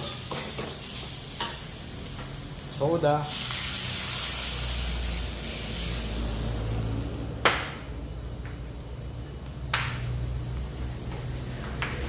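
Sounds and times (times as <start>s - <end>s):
liquid sizzling in a hot wok: 0.0s - 12.0s.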